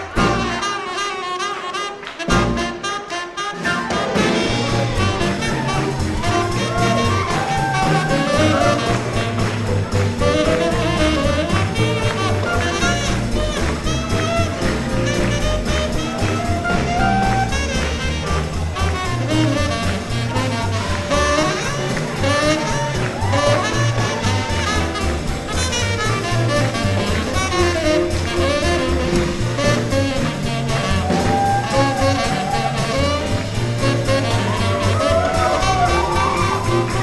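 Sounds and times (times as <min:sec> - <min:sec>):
upright bass notes: 0:00.0 - 0:00.7, 0:02.3 - 0:02.8, 0:04.0 - 0:37.0
horn melody: 0:00.0 - 0:37.0
drum beat: 0:03.5 - 0:37.0.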